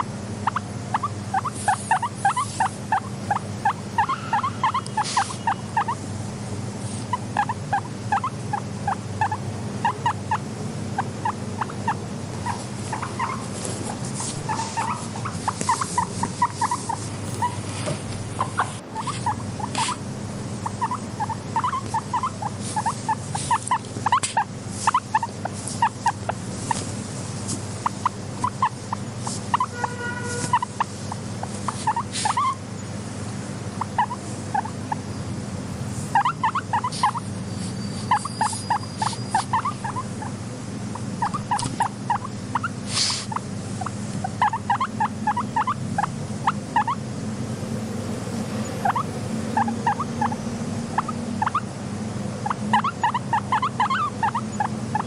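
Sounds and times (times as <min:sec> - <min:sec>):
guinea pig squeaking: 0:00.0 - 0:06.1, 0:06.8 - 0:32.6, 0:33.7 - 0:35.3, 0:36.0 - 0:47.0, 0:48.6 - 0:51.7, 0:52.4 - 0:55.0.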